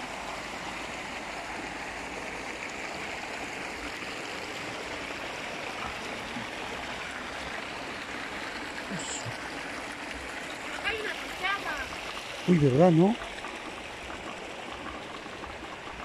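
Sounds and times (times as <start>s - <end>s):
water pouring and splashing: 0.0s - 16.0s.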